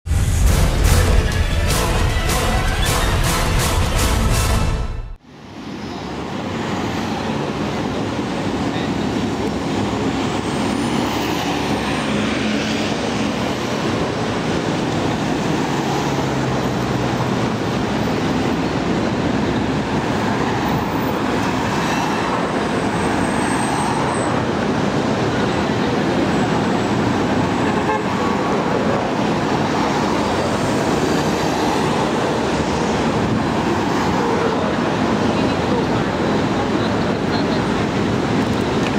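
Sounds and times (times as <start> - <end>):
cars passing close by: 5.2 - 38.9.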